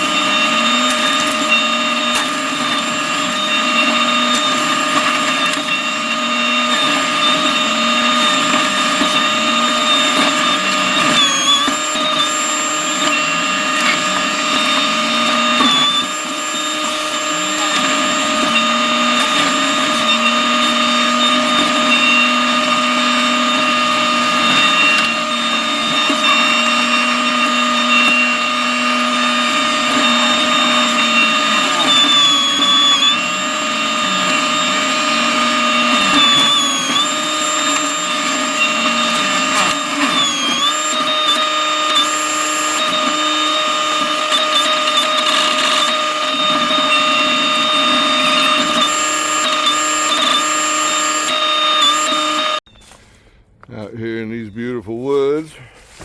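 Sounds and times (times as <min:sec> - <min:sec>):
mulching head high whine: 0:00.0 - 0:56.0.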